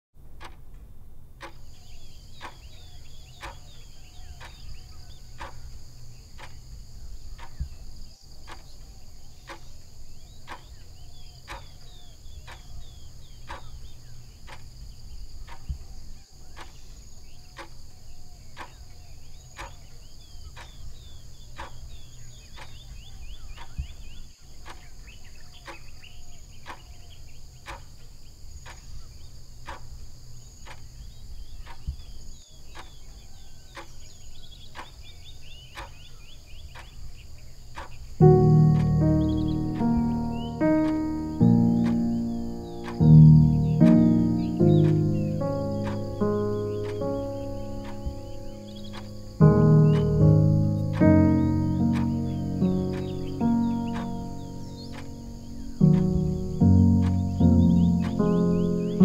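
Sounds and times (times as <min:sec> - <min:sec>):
clock-like ticking: 0:00.3 - 0:15.9, 0:16.5 - 0:17.9, 0:18.5 - 0:26.0, 0:26.6 - 0:27.0, 0:27.6 - 0:28.0, 0:28.6 - 0:32.0, 0:32.7 - 0:34.1, 0:34.7 - 0:35.1, 0:35.7 - 0:36.2, 0:36.8 - 0:59.0
crickets chirping: 0:01.4 - 0:59.0.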